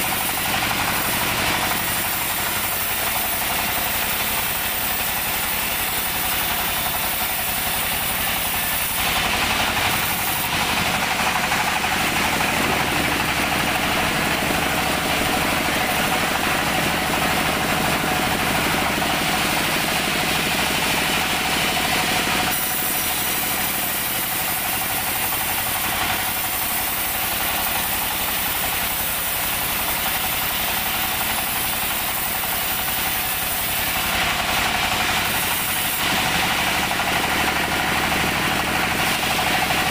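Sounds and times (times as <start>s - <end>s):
band sawmill running: 0.0s - 39.9s
saw blade rasping through log: 0.0s - 39.9s.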